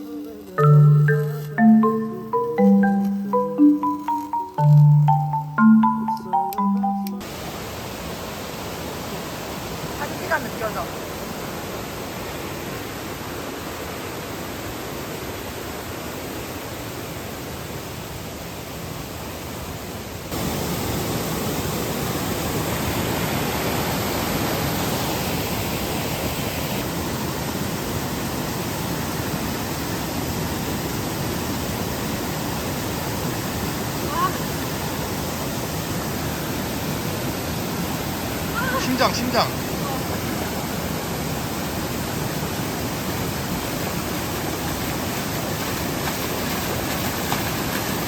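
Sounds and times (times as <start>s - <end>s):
stream water rushing: 0.6s - 48.0s.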